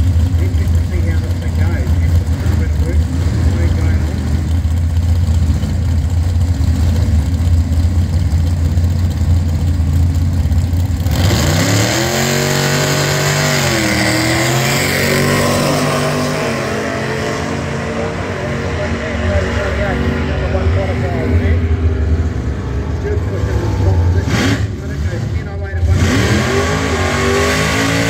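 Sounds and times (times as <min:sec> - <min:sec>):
car engines idling: 0:00.0 - 0:28.0
car engines revving: 0:00.0 - 0:28.0.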